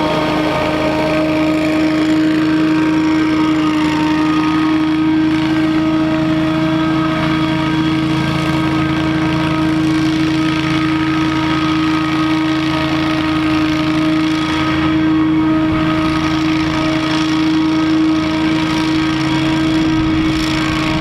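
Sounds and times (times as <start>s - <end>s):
debris blower droning: 0.0s - 21.0s.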